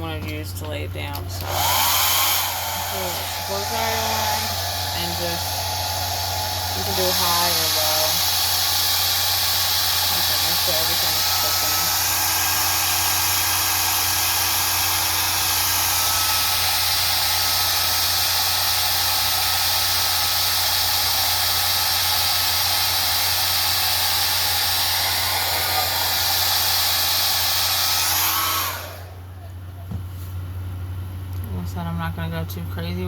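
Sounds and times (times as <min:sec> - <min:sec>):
hair dryer running: 0:01.1 - 0:29.5.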